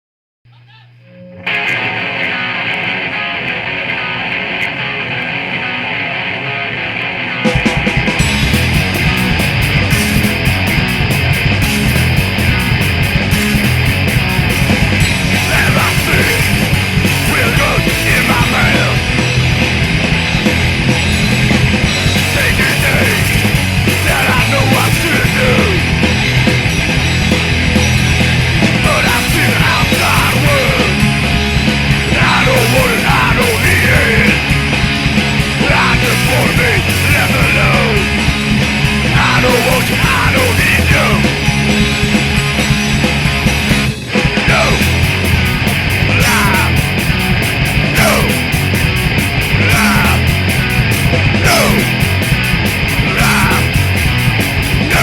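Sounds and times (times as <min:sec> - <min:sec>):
punk rock music: 0:01.4 - 0:55.0.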